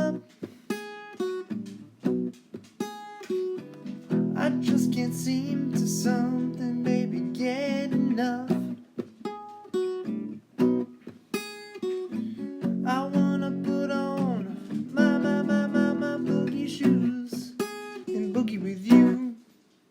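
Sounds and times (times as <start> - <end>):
acoustic guitar strumming: 0.0 - 19.4.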